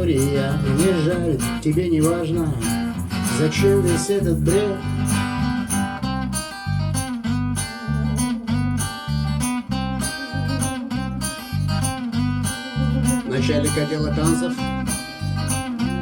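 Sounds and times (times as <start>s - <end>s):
low bass line: 0.0s - 16.0s
steady beat: 0.0s - 16.0s
strummed acoustic guitar: 0.0s - 16.0s.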